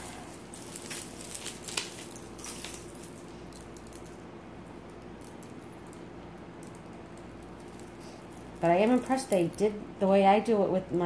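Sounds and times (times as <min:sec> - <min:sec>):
beaded necklaces clicking: 0:00.0 - 0:09.8
faint steady hum: 0:00.0 - 0:11.0.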